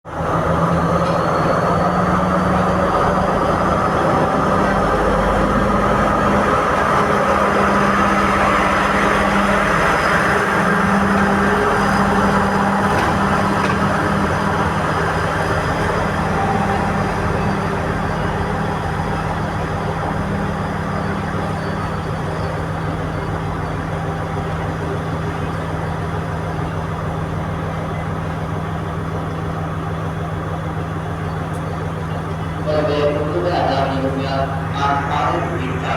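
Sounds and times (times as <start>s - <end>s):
diesel engine drone: 0.0s - 35.9s.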